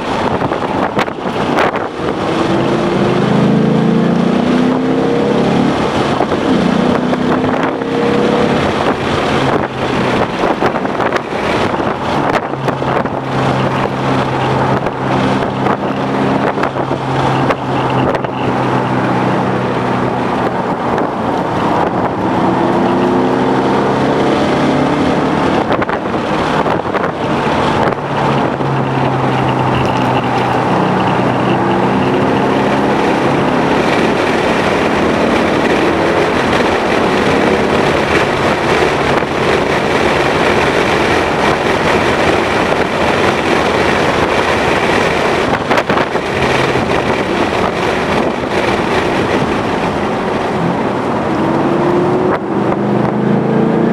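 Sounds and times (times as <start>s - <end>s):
car engine accelerating: 0.0s - 53.9s
heavy wind noise: 0.0s - 53.9s
road noise: 0.0s - 53.9s.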